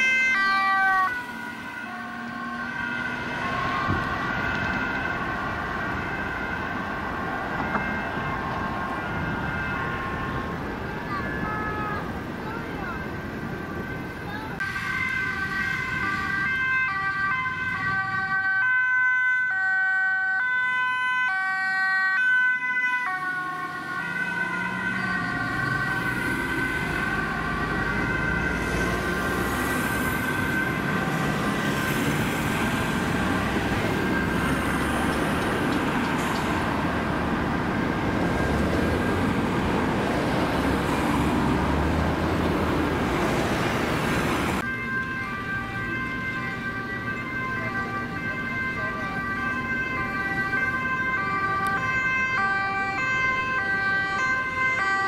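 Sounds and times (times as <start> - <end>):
ambulance two-tone siren: 0.0 - 55.0
road traffic and engines: 0.0 - 55.0.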